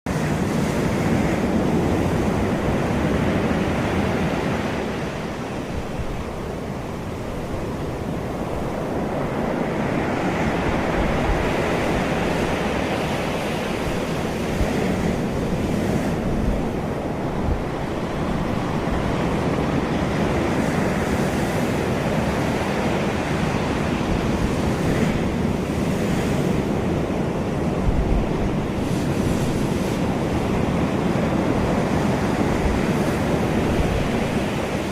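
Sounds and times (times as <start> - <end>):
sea surf breaking on beach: 0.1 - 34.9
wind buffeting microphone: 0.1 - 34.9.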